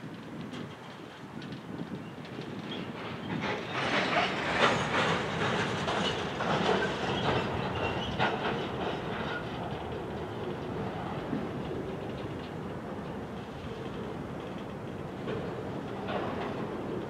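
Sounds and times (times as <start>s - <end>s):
wheels clattering over rail joints: 0.4s - 17.0s
freight train rolling past: 0.6s - 17.0s.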